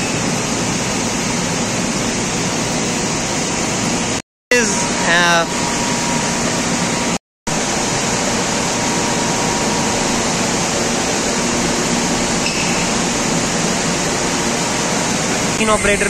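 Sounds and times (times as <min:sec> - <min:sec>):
bottling machinery running: 0:00.0 - 0:16.0
fans running: 0:00.0 - 0:16.0.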